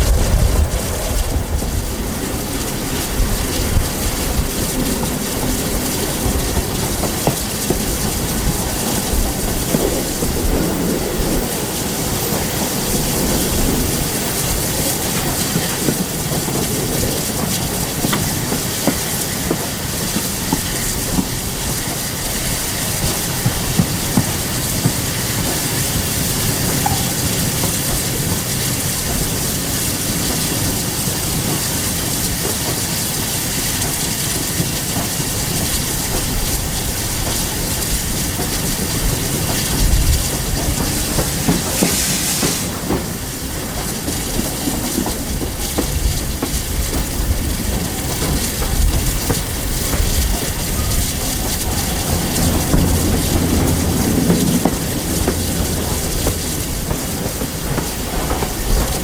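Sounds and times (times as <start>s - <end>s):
steam train rumbling: 0.0s - 59.0s
wheel clicks over rail joints: 2.1s - 59.0s.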